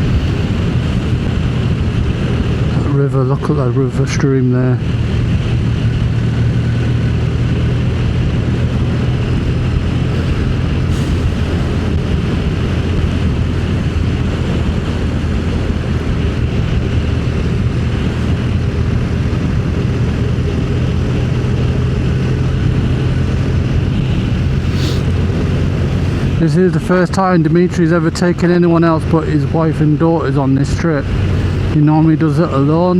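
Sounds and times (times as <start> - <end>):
motorcycle engine running: 0.0 - 31.8
rushing noise: 0.0 - 32.0.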